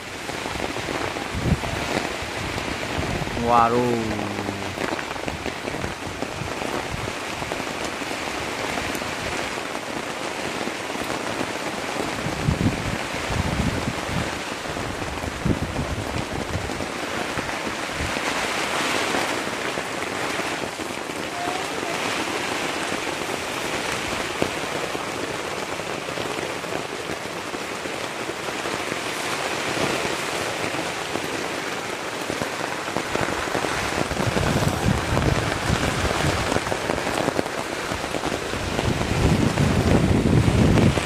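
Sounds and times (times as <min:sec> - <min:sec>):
wind gusts on microphone: 0:00.0 - 0:09.6, 0:10.3 - 0:27.0, 0:28.5 - 0:41.0
rain falling: 0:00.0 - 0:41.0.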